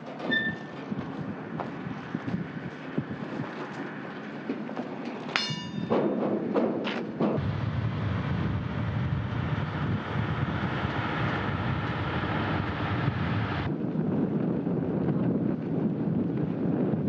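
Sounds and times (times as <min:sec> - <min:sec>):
train rumbling: 0:00.0 - 0:13.9.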